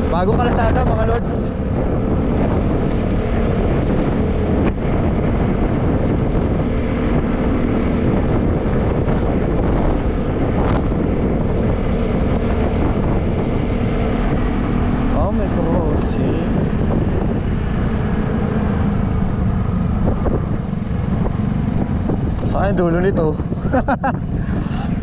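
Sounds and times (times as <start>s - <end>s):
scooter engine cruising: 0.0s - 25.0s
wind buffeting microphone: 0.0s - 25.0s.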